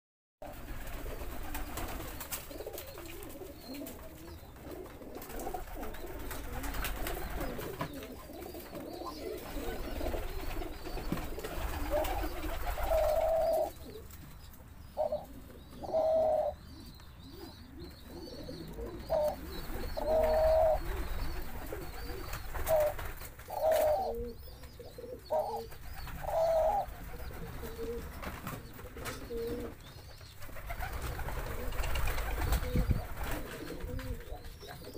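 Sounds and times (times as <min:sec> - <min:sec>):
doves cooing: 0:00.4 - 0:34.9.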